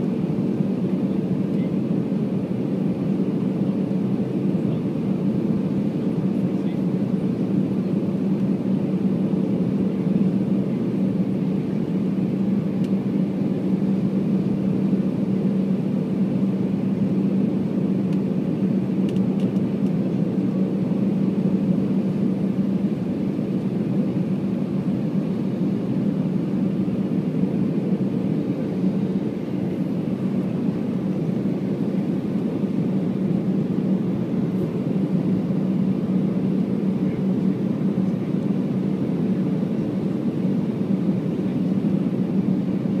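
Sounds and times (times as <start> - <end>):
airplane cabin engine roar: 0.0 - 43.0.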